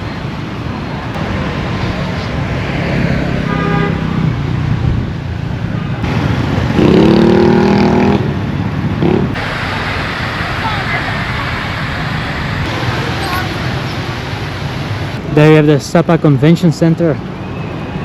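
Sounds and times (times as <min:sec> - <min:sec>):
vehicles going by: 0:00.0 - 0:18.0.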